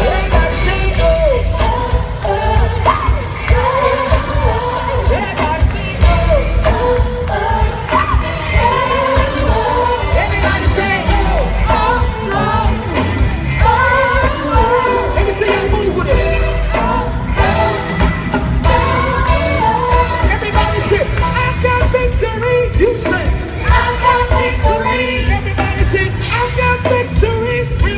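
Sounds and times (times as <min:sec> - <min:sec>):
band with bass and drums: 0:00.0 - 0:27.9
voices singing gospel: 0:00.0 - 0:27.9.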